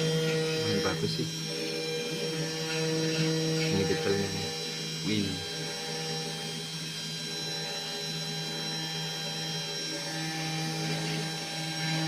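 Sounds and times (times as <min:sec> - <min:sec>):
router motor whining while carving wood: 0:00.0 - 0:12.0.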